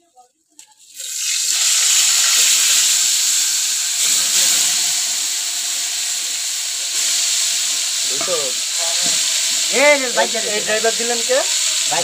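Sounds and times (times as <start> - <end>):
chicken sizzling in hot oil: 0.6 - 12.0.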